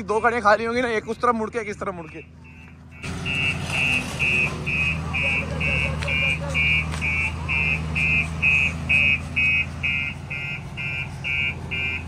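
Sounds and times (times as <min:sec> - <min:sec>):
diesel engine running: 0:00.0 - 0:12.0
truck reversing alarm beeping: 0:00.0 - 0:12.0.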